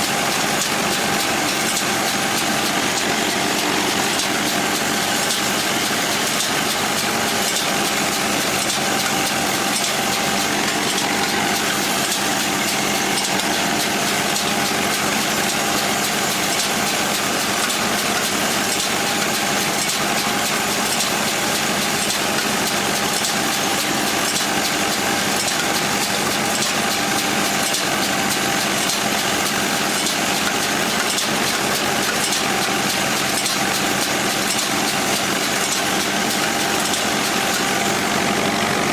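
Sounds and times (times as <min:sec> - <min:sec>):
farm machinery engine running: 0:00.0 - 0:38.9
steady mechanical whine: 0:00.0 - 0:38.9.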